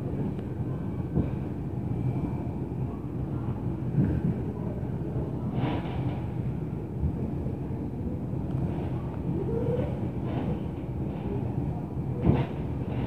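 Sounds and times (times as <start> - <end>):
low rumble through ceiling: 0.0 - 13.0.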